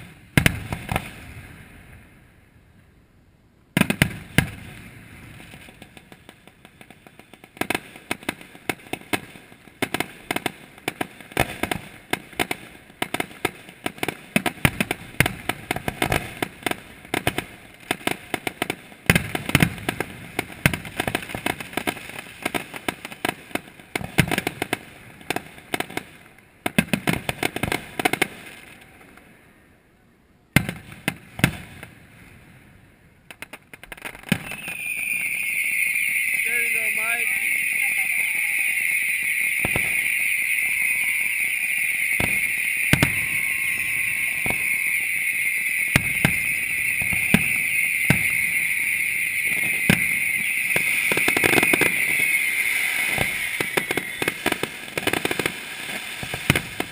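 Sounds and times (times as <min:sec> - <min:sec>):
fireworks bangs and crackles: 0:00.0 - 0:02.5, 0:03.8 - 0:29.6, 0:30.5 - 0:56.9.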